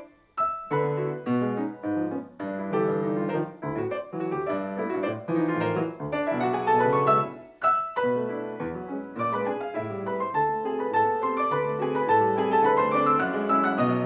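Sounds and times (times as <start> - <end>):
grand piano four hands: 0.0 - 14.0.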